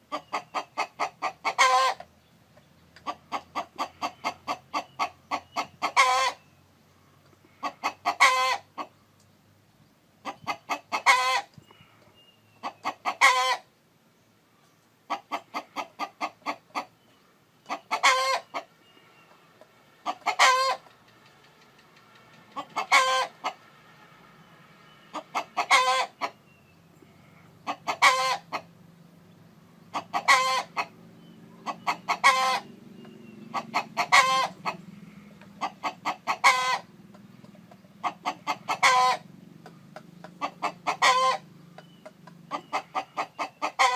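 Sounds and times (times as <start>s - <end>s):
chicken clucking: 0.0s - 6.5s, 7.2s - 9.0s, 10.2s - 13.7s, 14.6s - 24.1s, 24.8s - 43.9s.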